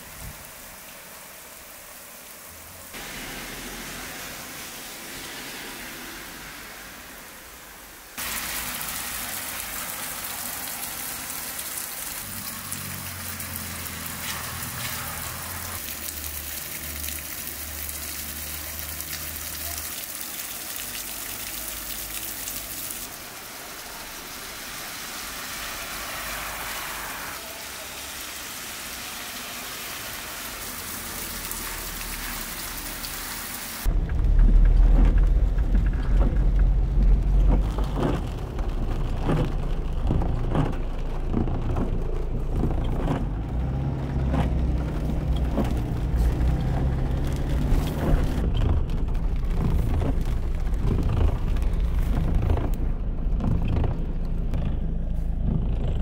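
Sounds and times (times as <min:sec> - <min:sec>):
heavy rain on pavement: 0:00.0 - 0:54.4
car driving on wet street: 0:00.0 - 0:56.0.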